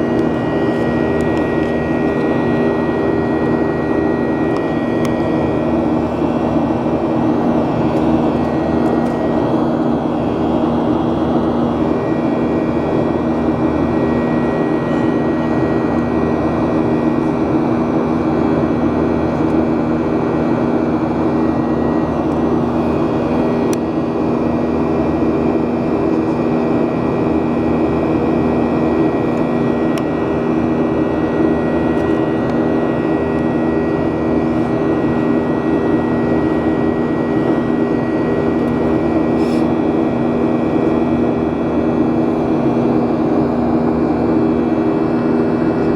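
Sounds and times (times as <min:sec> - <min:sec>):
jet engines in cabin: 0:00.0 - 0:45.9.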